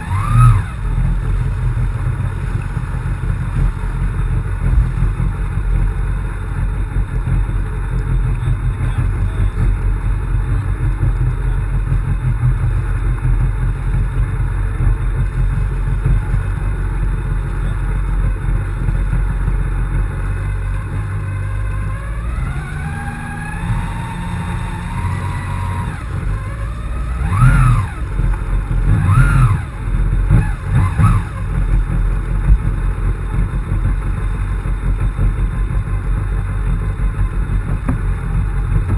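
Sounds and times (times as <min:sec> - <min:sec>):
jet ski engine rumbling: 0:00.0 - 0:38.9.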